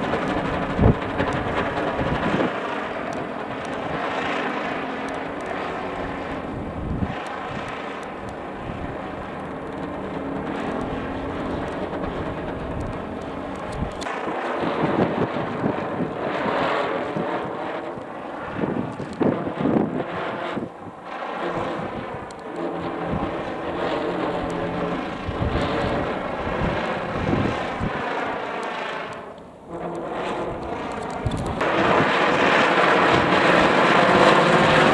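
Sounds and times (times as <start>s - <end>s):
strong wind on microphone: 0.0s - 28.4s, 29.8s - 34.9s.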